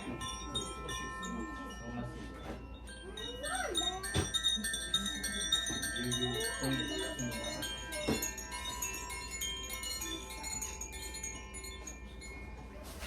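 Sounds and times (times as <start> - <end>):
chimes ringing: 0.0 - 13.0.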